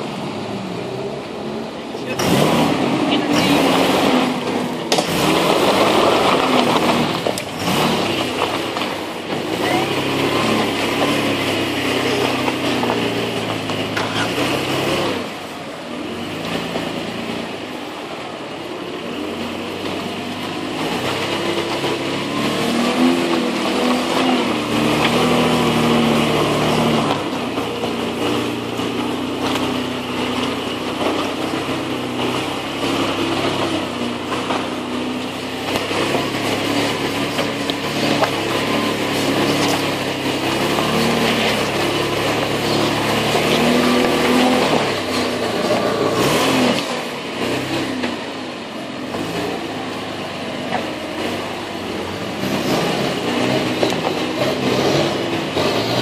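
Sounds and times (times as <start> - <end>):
truck engine revving off-road: 0.0 - 56.0.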